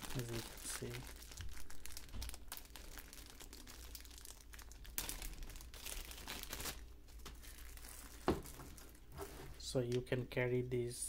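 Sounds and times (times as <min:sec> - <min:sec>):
plastic zip bag crinkling: 0:00.0 - 0:09.0.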